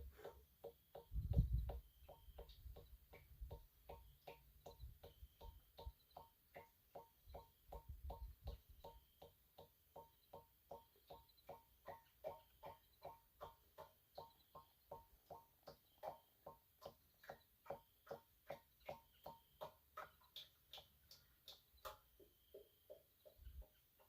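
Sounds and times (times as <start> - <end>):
faint ringing ticks: 0.0 - 24.0.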